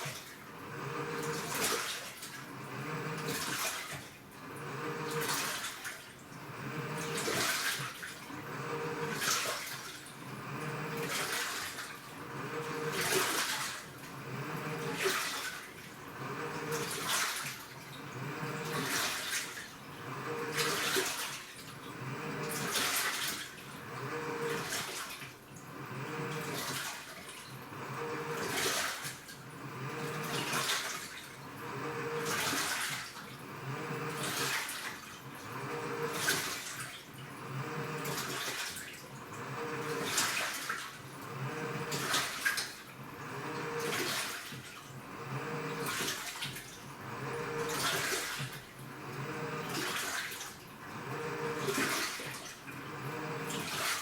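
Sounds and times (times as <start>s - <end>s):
faint motor hum: 0.0s - 54.0s
washing machine water sloshing: 0.0s - 54.0s.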